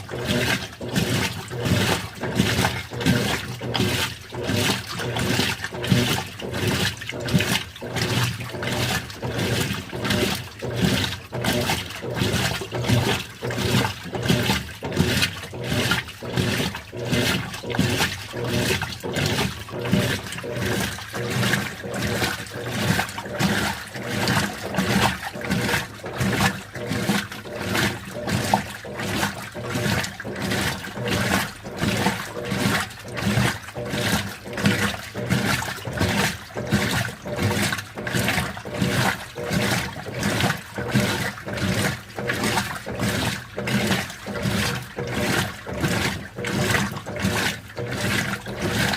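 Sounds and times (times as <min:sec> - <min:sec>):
washing machine water sloshing: 0:00.0 - 0:48.9.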